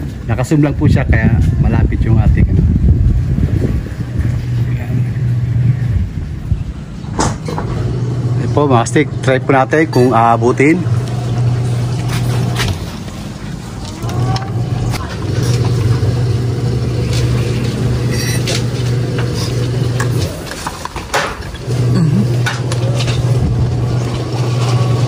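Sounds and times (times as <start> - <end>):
engine humming: 1.4 - 25.0.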